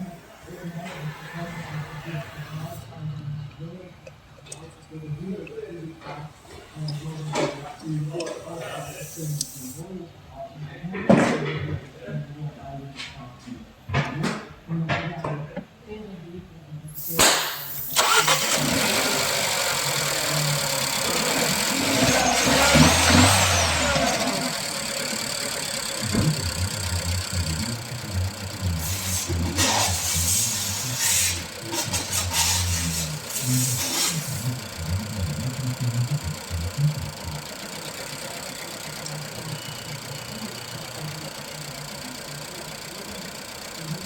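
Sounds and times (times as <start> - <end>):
engine idling roughly: 0.0 - 3.6, 4.5 - 9.8, 17.0 - 44.0
car engine starting: 0.0 - 9.9, 17.0 - 44.0.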